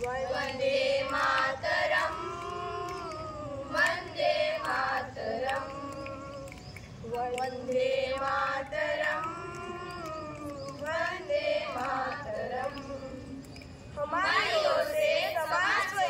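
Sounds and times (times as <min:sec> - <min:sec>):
girls singing in unison: 0:00.0 - 0:16.0.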